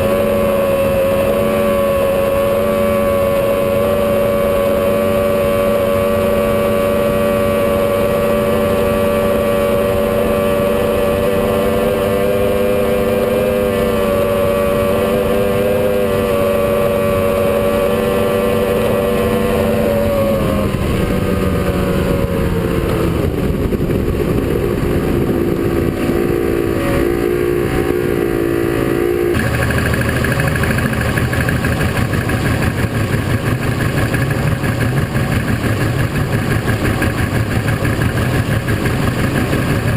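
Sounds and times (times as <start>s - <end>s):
powerboat engine running: 0.0s - 39.9s.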